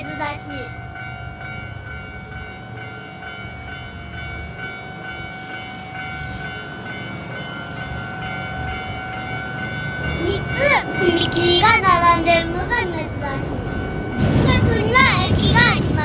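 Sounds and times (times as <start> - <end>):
level crossing warning bell: 0.0 - 16.0
train rumbling past: 0.0 - 16.0.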